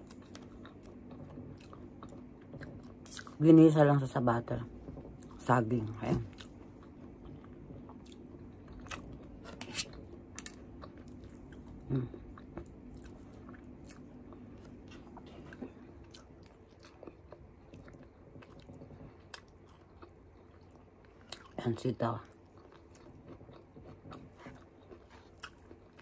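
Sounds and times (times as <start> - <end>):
soft chewing: 0.0 - 3.8, 4.5 - 26.0.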